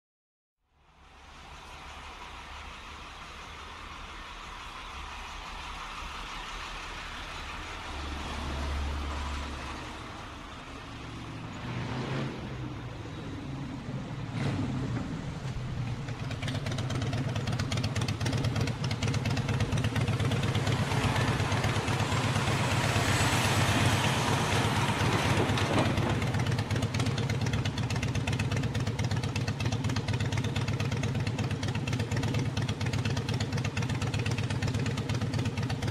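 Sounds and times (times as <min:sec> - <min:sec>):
traffic noise: 0:00.6 - 0:35.9
motorcycle engine: 0:04.0 - 0:35.9.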